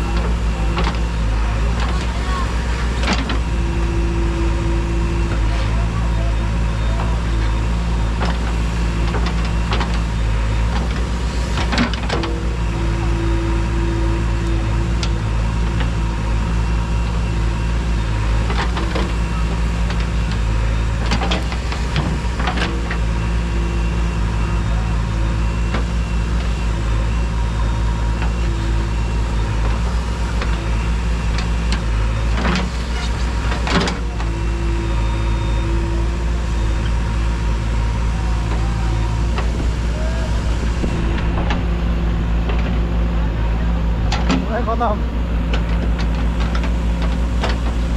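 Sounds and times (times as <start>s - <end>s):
diesel machinery engine running: 0.0s - 47.9s.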